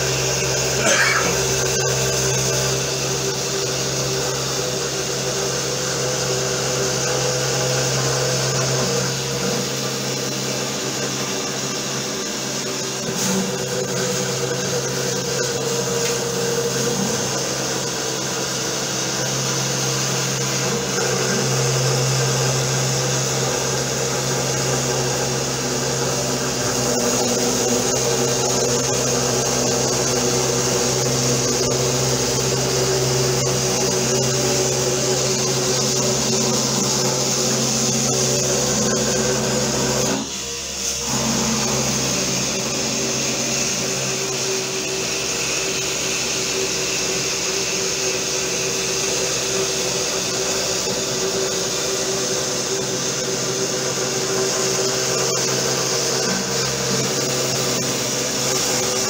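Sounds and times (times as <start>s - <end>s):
router spindle cutting plywood: 0.0s - 59.0s.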